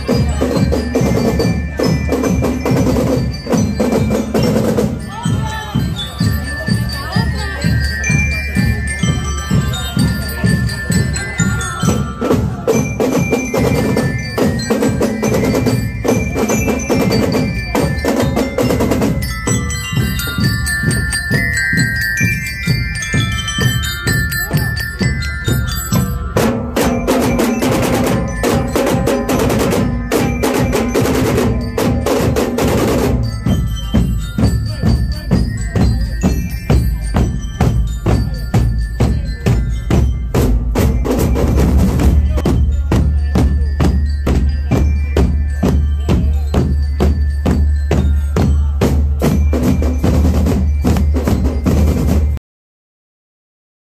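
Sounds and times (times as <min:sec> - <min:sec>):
bell lyres melody: 0:00.0 - 0:52.4
snare and bass drums march beat: 0:00.0 - 0:52.4.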